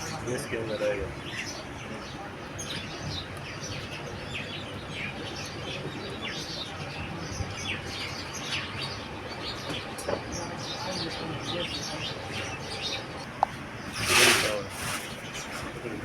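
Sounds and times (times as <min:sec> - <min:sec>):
birds chirping: 0:00.0 - 0:16.0
low steady background noise: 0:00.0 - 0:16.0.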